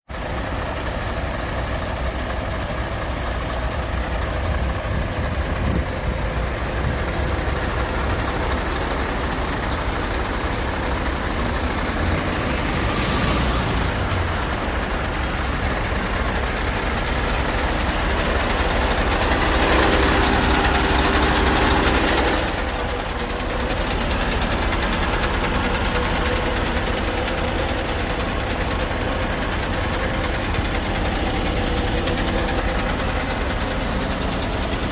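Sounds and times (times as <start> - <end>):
diesel truck idling: 0.1 - 34.9.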